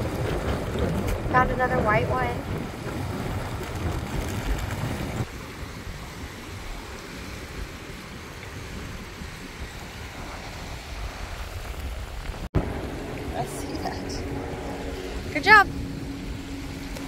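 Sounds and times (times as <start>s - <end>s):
waves washing ashore: 0.0s - 17.0s
wind buffeting microphone: 0.0s - 17.0s.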